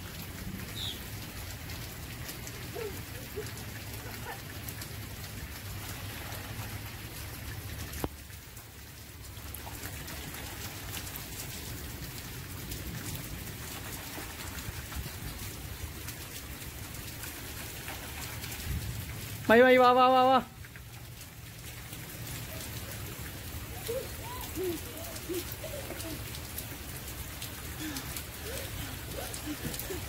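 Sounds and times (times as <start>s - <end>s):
rain on asphalt: 0.0s - 30.0s.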